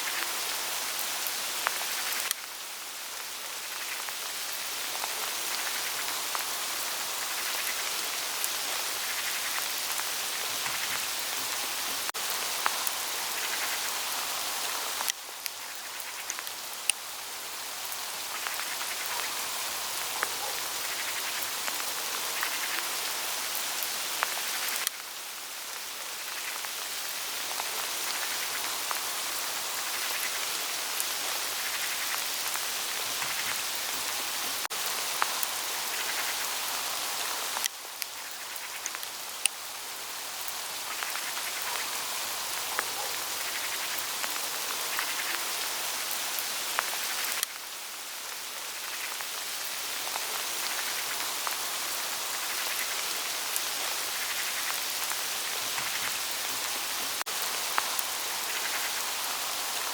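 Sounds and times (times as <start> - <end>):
hail falling on leaves: 0.0 - 59.9.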